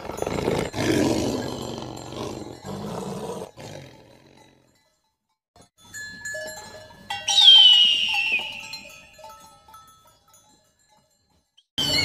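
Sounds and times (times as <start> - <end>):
outdoor background: 0.0 - 12.0.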